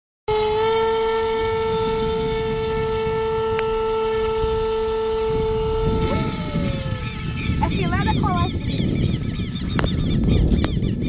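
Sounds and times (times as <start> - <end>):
model plane motor whining: 0.3 - 11.0
wind rumble on microphone: 0.3 - 11.0.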